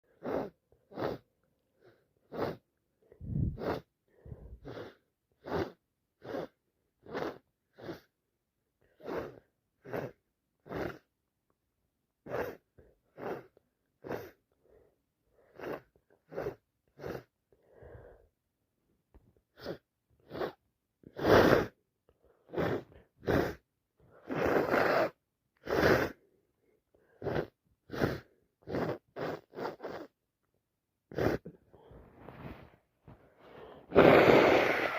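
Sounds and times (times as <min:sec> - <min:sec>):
congested nasal breaths: 0:00.0 - 0:08.2, 0:08.8 - 0:11.1, 0:12.2 - 0:18.3, 0:19.4 - 0:30.2, 0:31.1 - 0:34.9.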